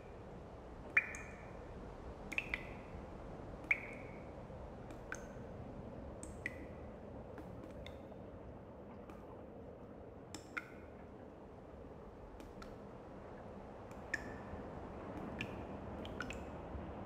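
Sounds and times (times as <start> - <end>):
water dripping plinks: 0.8 - 5.6, 6.2 - 16.7.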